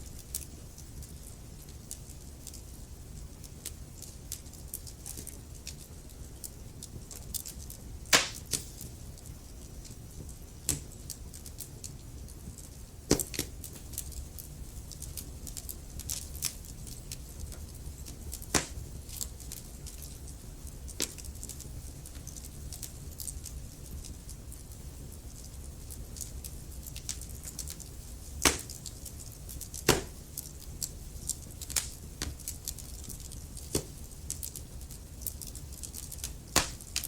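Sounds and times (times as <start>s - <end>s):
low steady rumble: 0.0s - 37.0s
wood fire crackling and popping: 0.0s - 37.0s.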